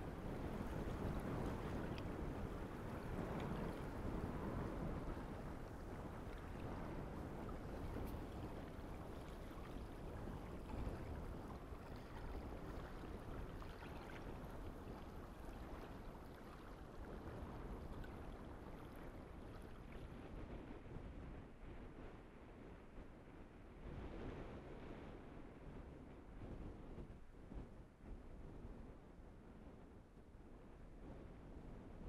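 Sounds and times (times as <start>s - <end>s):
wind over grass: 0.0s - 32.0s.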